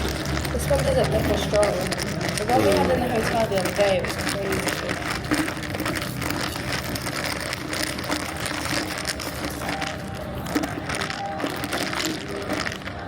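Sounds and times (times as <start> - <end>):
background chatter: 0.0 - 13.0
small clicks and clatter: 0.0 - 13.0.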